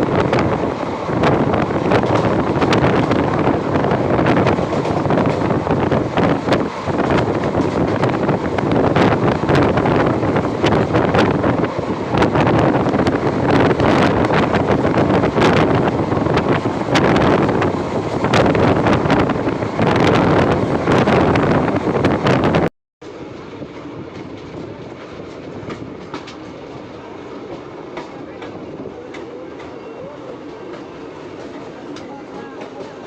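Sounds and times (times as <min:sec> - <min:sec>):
wind rushing over microphone: 0:00.0 - 0:26.9
train running noise: 0:00.0 - 0:33.0.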